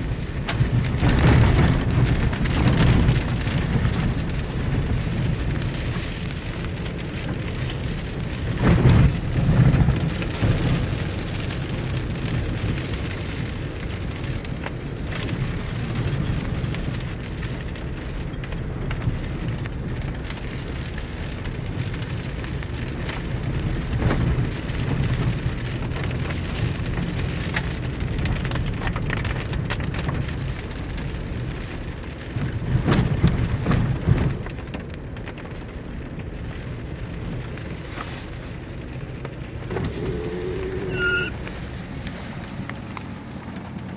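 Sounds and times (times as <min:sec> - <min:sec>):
steady rain: 0:00.0 - 0:43.9
vehicle road and engine rumble: 0:00.0 - 0:43.9.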